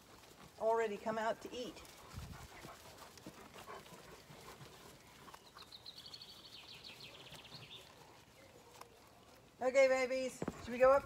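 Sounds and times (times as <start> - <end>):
lambs chewing grass: 0.0 - 11.0.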